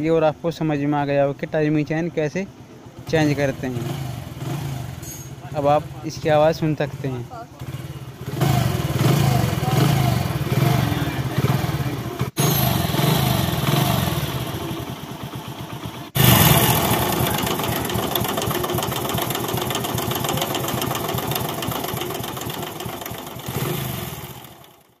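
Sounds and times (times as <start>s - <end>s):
motorcycle engine running: 2.5s - 25.0s.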